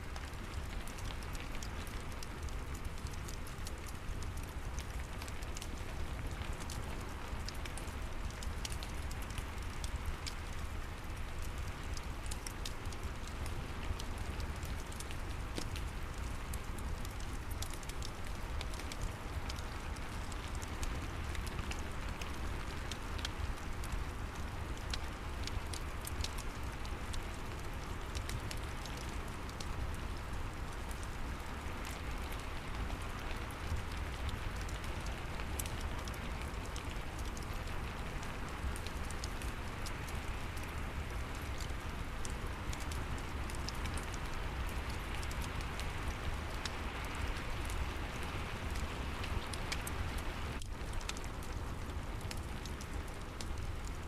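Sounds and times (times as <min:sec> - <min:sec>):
steady rain falling: 0:00.0 - 0:54.0
fireplace crackling: 0:00.1 - 0:54.0.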